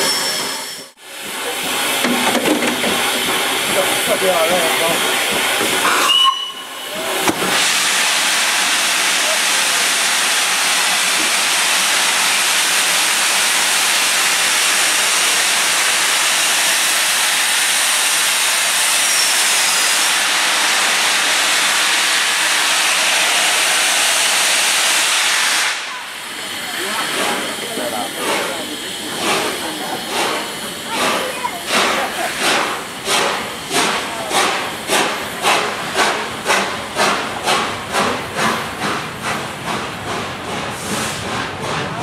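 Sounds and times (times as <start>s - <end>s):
steam locomotive hissing steam: 0.0s - 42.0s.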